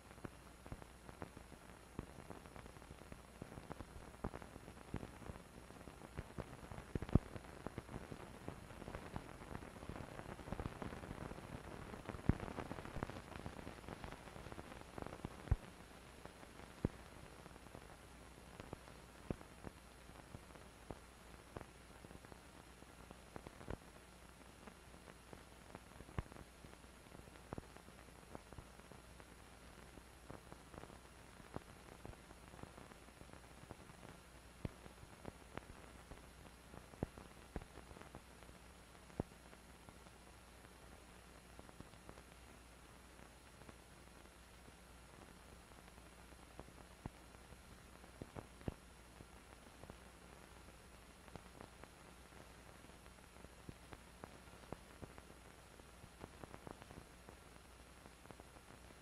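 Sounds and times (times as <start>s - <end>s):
faint steady hiss: 0.0s - 59.0s
film crackle clicks and pops: 0.0s - 59.0s.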